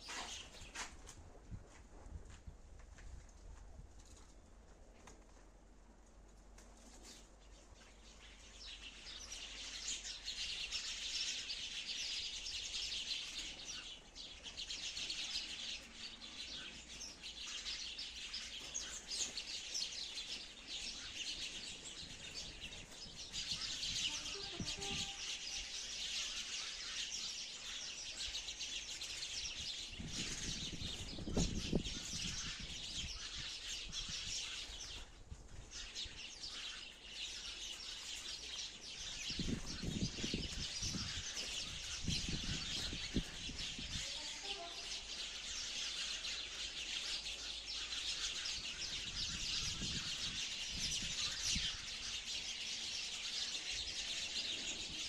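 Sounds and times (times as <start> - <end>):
sparrows chirping: 0.0 - 0.9, 6.8 - 55.0.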